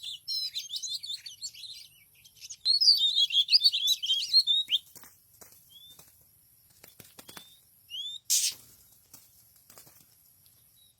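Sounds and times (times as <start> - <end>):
small bird chirping: 0.0 - 10.9.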